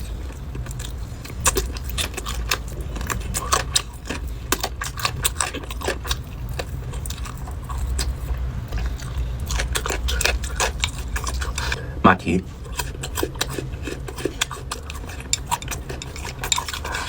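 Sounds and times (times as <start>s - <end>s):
chewing and biting crunches: 0.0s - 11.9s, 12.5s - 17.0s.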